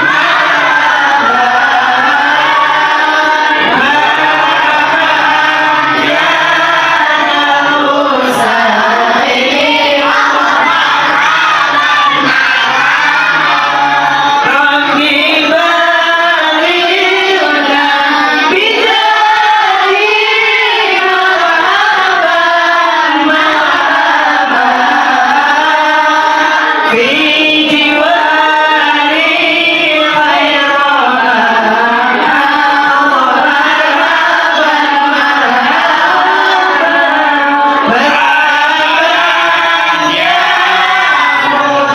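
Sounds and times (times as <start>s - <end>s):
group singing devotional song: 0.0s - 41.9s.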